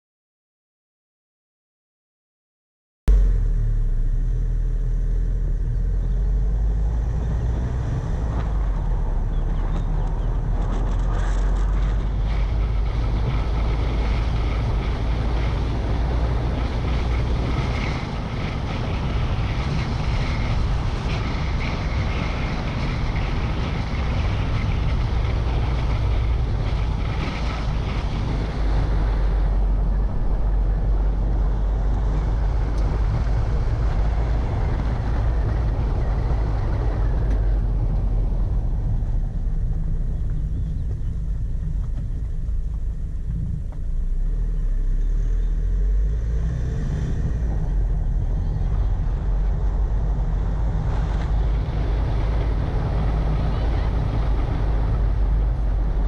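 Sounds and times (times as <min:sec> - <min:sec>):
car engine: 0:03.1 - 0:56.0
tyre noise on rough road: 0:03.1 - 0:56.0
wind rumble on microphone: 0:03.1 - 0:56.0.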